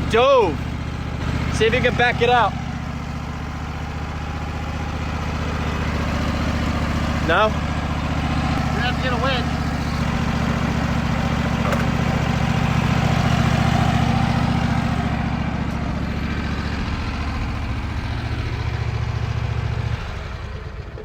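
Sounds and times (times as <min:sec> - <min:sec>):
sawmill engine idling: 0:00.0 - 0:21.0.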